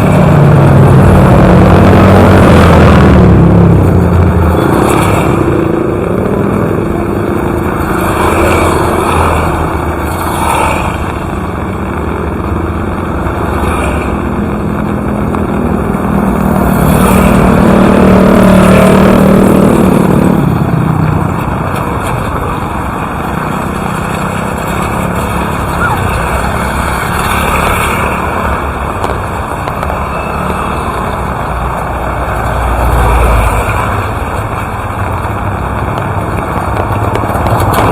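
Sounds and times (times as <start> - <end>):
steady rain falling: 5.9 - 37.9.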